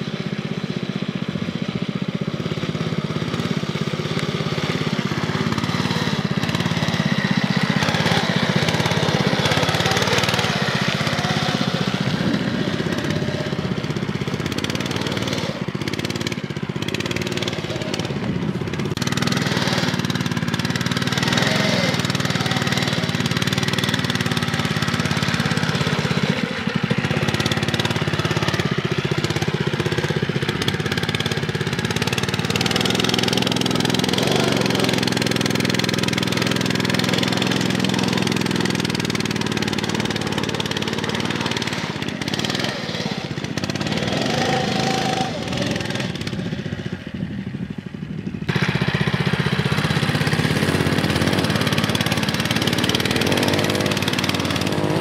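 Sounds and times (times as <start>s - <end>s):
mini-bike engine under load: 0.0s - 55.0s.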